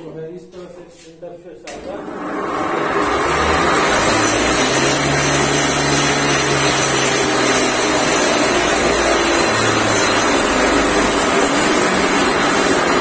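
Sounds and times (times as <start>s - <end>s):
chaff cutter motor whirring: 2.0s - 13.0s.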